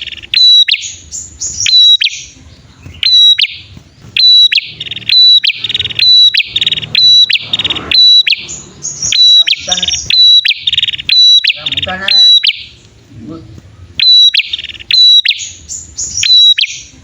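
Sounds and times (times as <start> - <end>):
bird sharp chirps: 0.0 - 13.1, 13.8 - 17.0
bird buzzy trills: 0.0 - 17.0.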